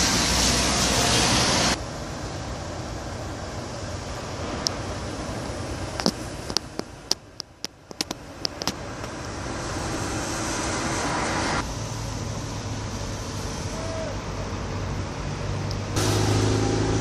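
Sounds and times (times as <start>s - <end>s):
rush of noise: 0.0s - 6.9s, 8.1s - 17.0s
harbour background noise: 0.0s - 17.0s.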